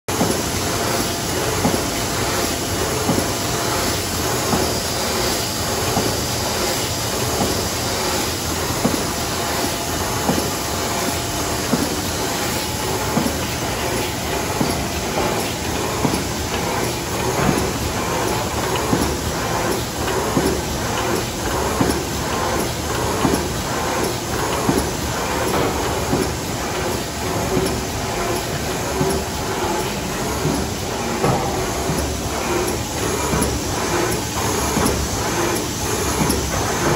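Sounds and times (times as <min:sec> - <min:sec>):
machine clacks and knocks: 0:00.1 - 0:36.9
screen printing machine humming: 0:00.1 - 0:36.9.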